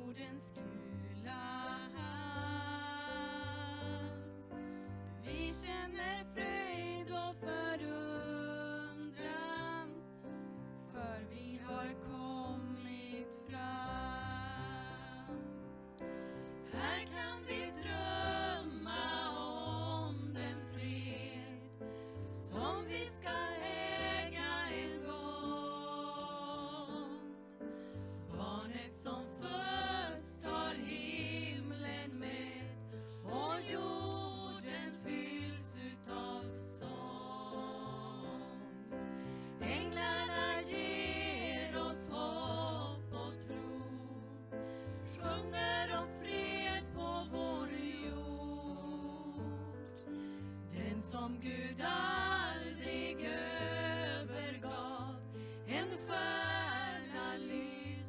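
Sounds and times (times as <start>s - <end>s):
women singing in harmony: 0.0s - 4.6s, 5.2s - 15.6s, 16.5s - 58.0s.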